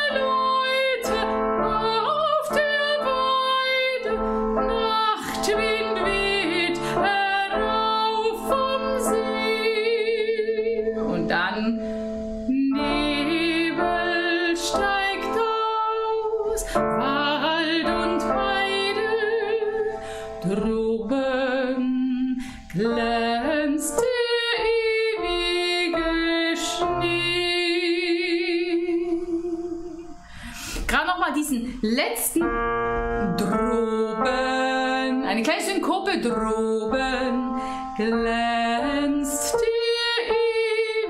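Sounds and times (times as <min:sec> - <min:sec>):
woman singing with vibrato: 0:00.0 - 0:32.6, 0:33.2 - 0:41.0.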